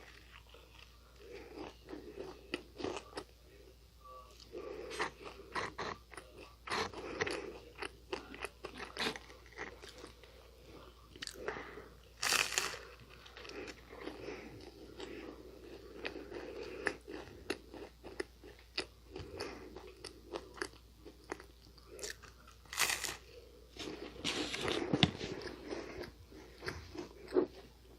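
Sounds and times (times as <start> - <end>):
crunching and chewing pastry: 0.0 - 27.9.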